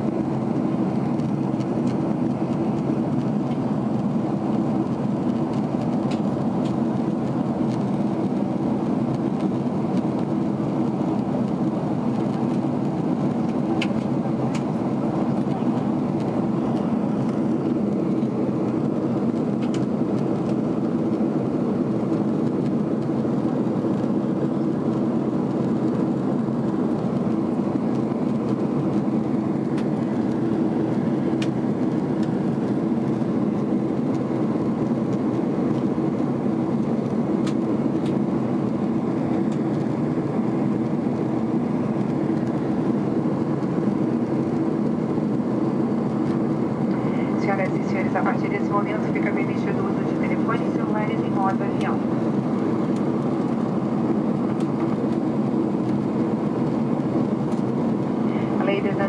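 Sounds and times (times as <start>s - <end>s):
jet engine and airflow roar: 0.0s - 59.0s
steady hum: 0.0s - 59.0s.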